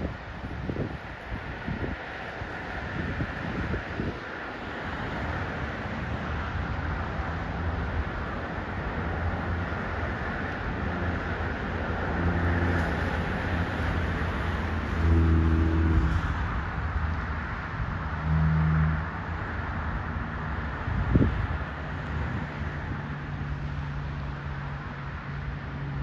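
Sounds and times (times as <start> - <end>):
low engine hum: 0.0 - 26.0
road rush: 0.0 - 26.0.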